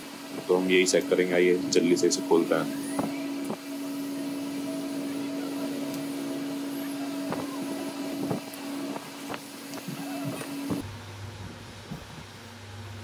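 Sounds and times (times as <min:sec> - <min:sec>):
angle grinder whining: 0:00.0 - 0:10.9.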